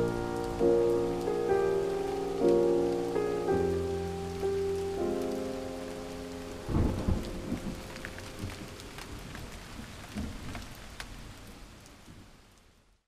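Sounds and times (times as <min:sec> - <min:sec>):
thunder rumbling: 0:00.0 - 0:10.5
steady rain: 0:00.0 - 0:13.0.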